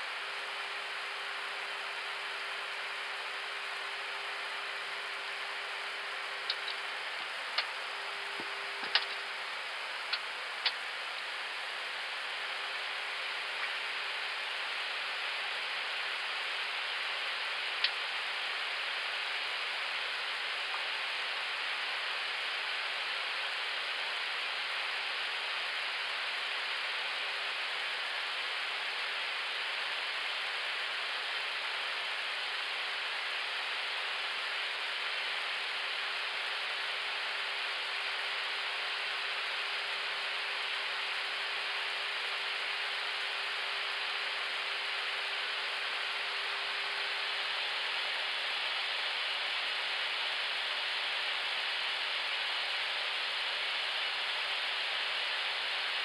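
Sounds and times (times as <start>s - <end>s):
faint constant hum: 0.0s - 56.0s.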